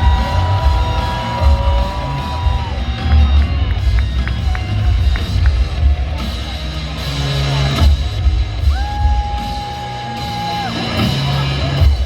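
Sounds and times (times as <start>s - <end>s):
entrance music with bass beat: 0.0s - 12.0s.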